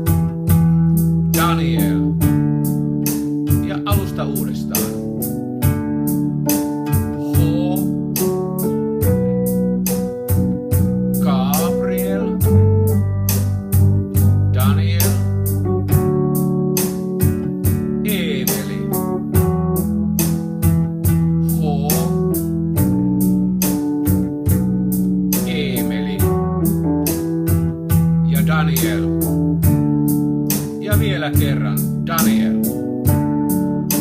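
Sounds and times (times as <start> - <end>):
bass guitar long held notes: 0.0 - 34.0
organ-like keyboard chords: 0.0 - 34.0
steady beat: 0.0 - 34.0.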